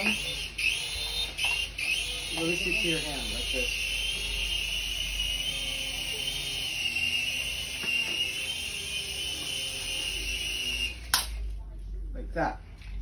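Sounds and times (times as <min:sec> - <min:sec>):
toy helicopter motors whining: 0:00.0 - 0:11.3.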